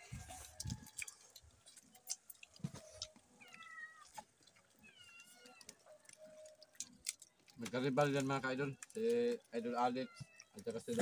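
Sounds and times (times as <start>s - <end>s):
crab shells cracking: 0.5s - 11.0s.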